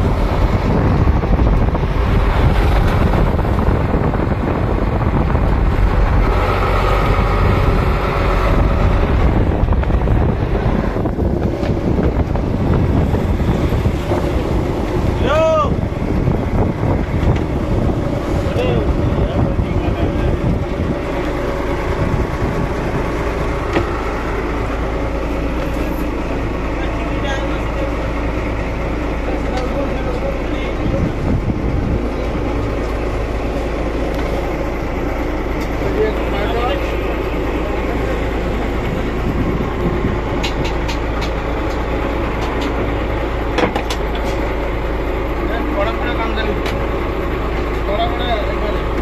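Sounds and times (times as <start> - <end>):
boat engine humming: 0.0 - 49.0
wind and sea rushing: 0.0 - 49.0.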